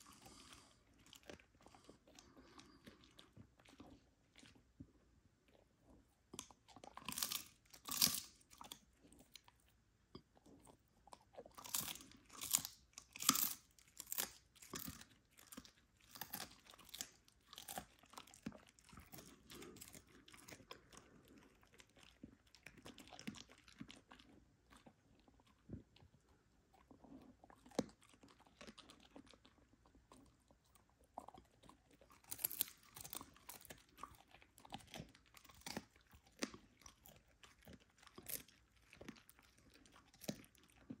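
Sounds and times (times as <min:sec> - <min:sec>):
dog chewing brittle treat: 0:06.3 - 0:09.7, 0:10.4 - 0:41.0.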